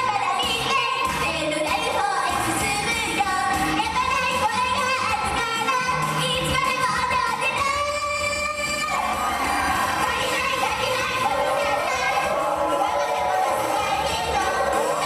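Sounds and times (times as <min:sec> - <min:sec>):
women singing pop song: 0:00.0 - 0:15.0.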